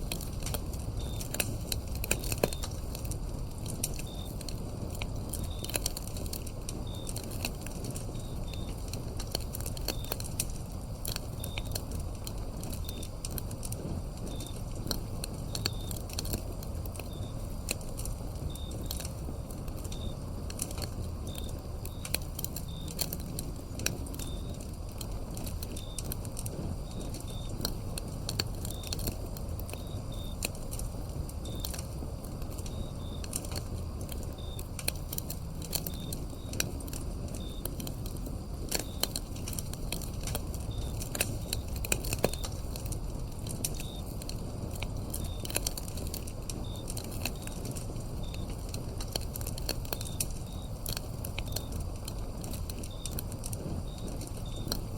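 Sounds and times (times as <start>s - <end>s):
crickets chirping: 0.0s - 54.9s
wood fire crackling and popping: 0.0s - 54.9s.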